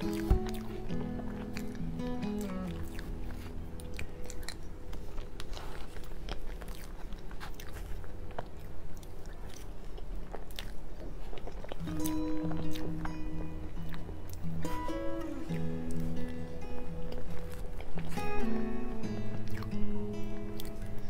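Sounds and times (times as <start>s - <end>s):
chewing: 0.0s - 21.0s
wet mouth sounds: 0.0s - 21.0s.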